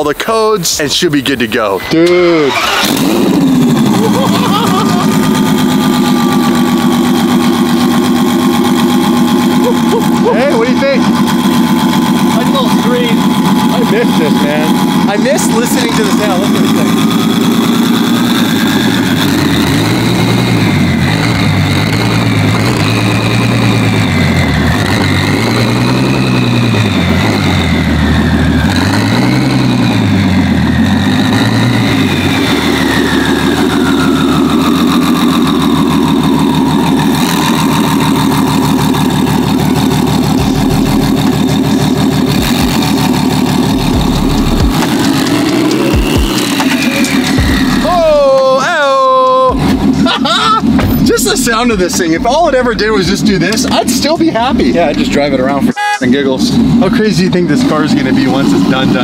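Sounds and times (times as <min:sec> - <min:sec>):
car engine revving and idling: 0:00.0 - 0:59.0
high engine whine: 0:00.0 - 0:59.0.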